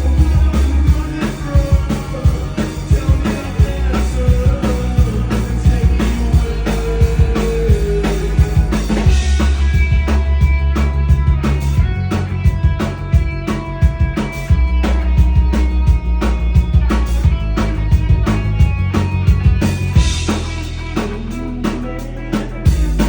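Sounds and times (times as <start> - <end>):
drum kit beat: 0.0 - 23.0
heavy bass line: 0.0 - 23.0
live rock band playing: 0.0 - 23.0.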